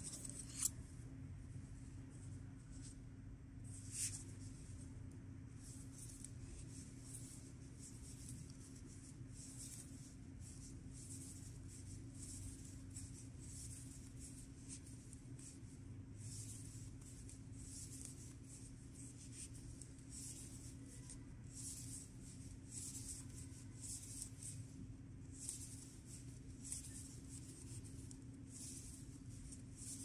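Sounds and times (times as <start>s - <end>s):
low steady hum: 0.0s - 30.0s
yarn rubbing on knitting needles: 5.5s - 30.0s.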